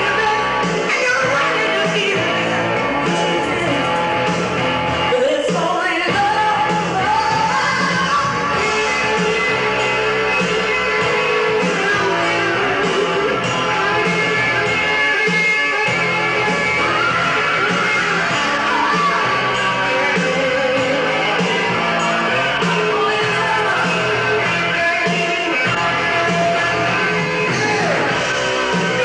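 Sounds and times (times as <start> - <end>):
person singing: 0.0 - 4.4, 5.0 - 29.0
rock music with guitar: 0.0 - 29.0.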